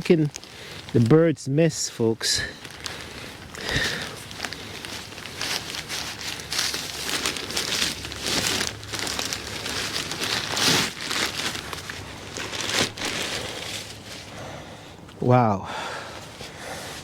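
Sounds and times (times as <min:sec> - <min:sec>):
plastic bag crinkling: 0:00.0 - 0:01.2, 0:01.9 - 0:14.5.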